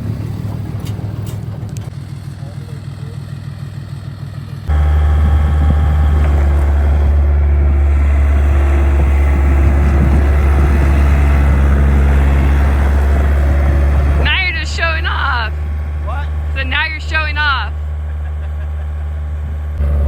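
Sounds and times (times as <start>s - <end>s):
diesel engine running hard: 0.0s - 20.0s.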